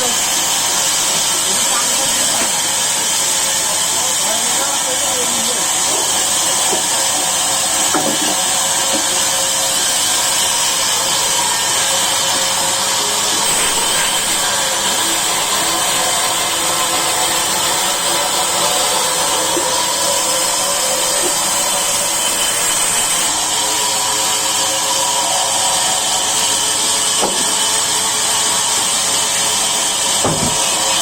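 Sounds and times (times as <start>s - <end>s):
sawmill saw running: 0.0s - 31.0s
whining tones: 0.0s - 31.0s.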